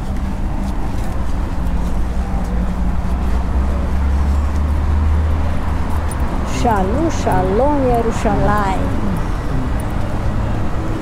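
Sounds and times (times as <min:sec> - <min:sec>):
city road traffic rumble: 0:00.0 - 0:11.0.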